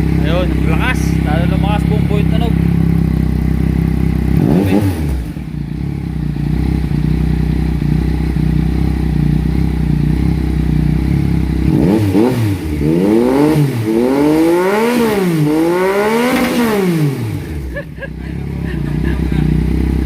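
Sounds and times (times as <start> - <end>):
loud motorcycle engine revving: 0.0 - 20.0.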